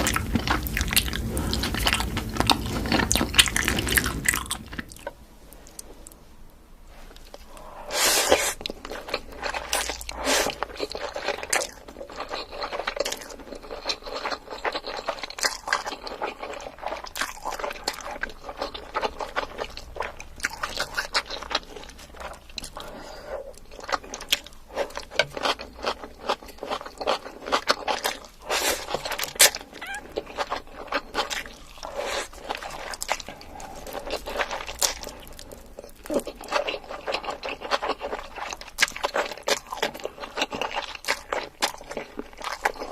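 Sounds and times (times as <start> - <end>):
person chewing crunchy food: 0.0 - 6.2, 7.1 - 42.9.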